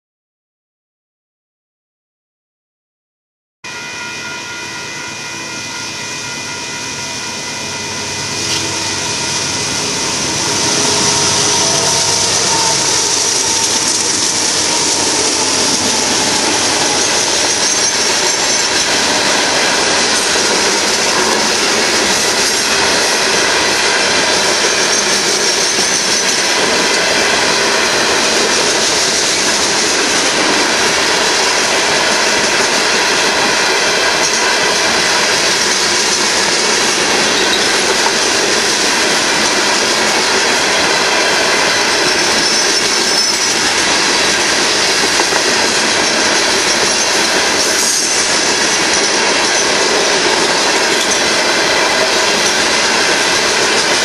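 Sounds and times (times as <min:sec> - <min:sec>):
freight train rolling past: 0:03.7 - 0:54.0
steady tones: 0:03.7 - 0:54.0.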